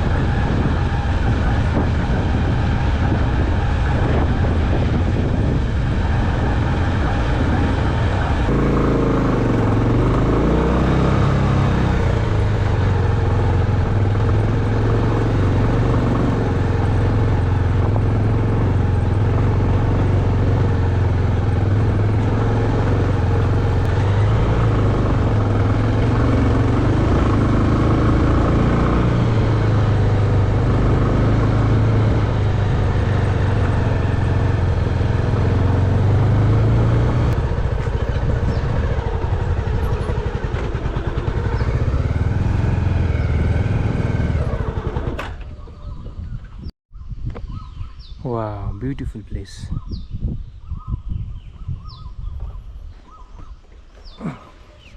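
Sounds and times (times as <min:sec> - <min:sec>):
motorcycle engine running: 0:00.0 - 0:46.7, 0:51.5 - 0:54.9
road and wind noise: 0:00.0 - 0:54.9.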